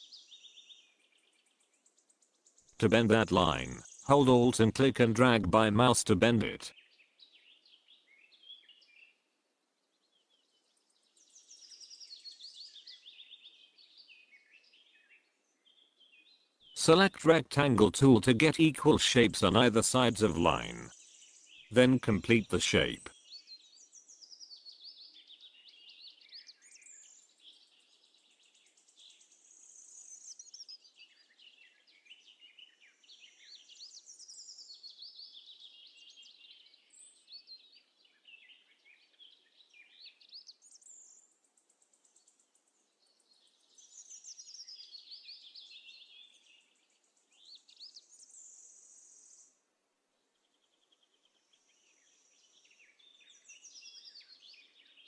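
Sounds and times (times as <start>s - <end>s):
faint birdsong: 0.0s - 55.0s.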